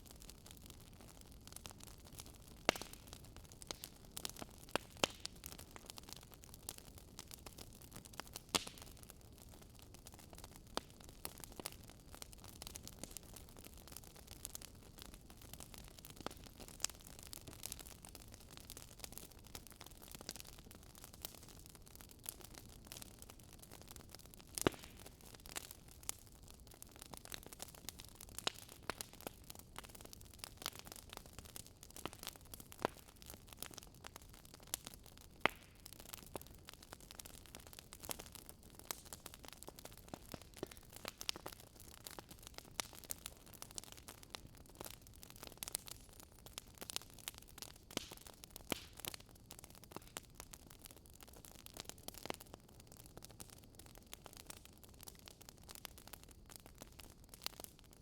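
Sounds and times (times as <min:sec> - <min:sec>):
fireplace crackling: 0:00.2 - 0:52.4, 0:53.4 - 0:57.9.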